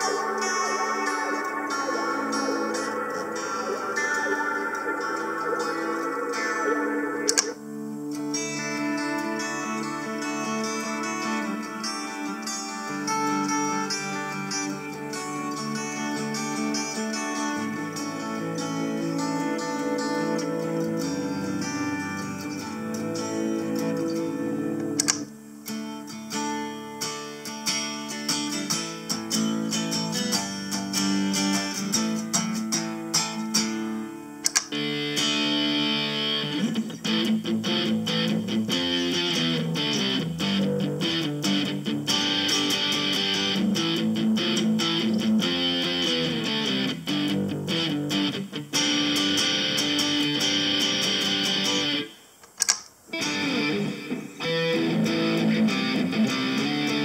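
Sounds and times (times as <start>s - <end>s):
electric guitar through effects: 0.0s - 57.0s.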